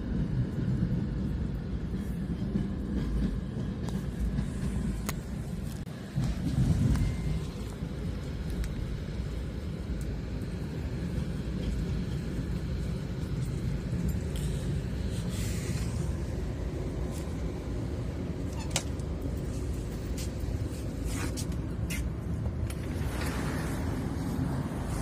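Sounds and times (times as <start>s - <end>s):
train rumble inside carriage: 0.0s - 25.0s.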